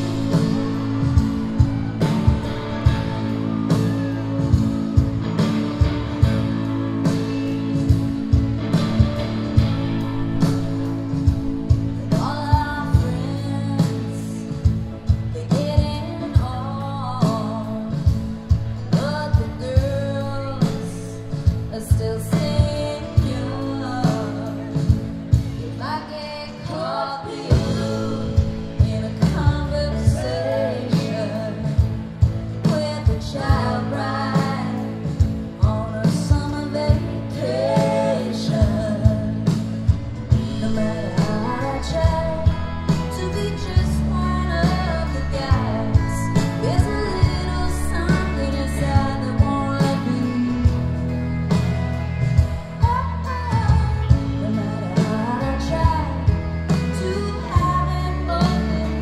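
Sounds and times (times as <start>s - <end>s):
live rock band playing: 0.0s - 59.0s
woman singing lead vocal: 0.0s - 59.0s.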